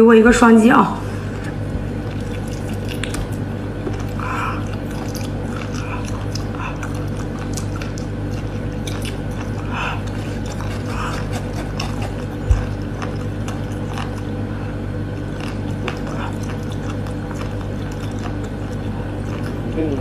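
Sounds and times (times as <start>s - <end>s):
low electrical hum: 0.0s - 20.0s
mouth chewing and biting: 1.4s - 20.0s.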